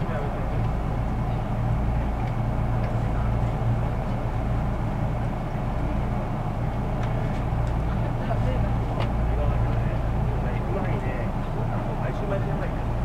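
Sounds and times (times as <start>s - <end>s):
train low hum and rumble: 0.0s - 13.0s.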